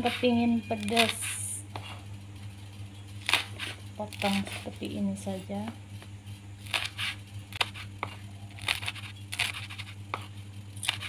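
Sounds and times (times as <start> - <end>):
knife scraping: 0.0 - 2.1, 3.0 - 11.0
steady low hum: 0.0 - 11.0.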